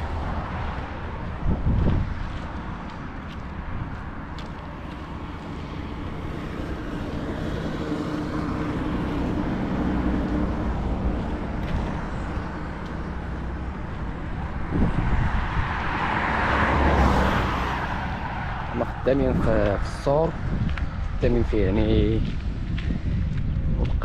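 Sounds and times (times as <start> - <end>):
vehicle engine passing: 0.0 - 23.2.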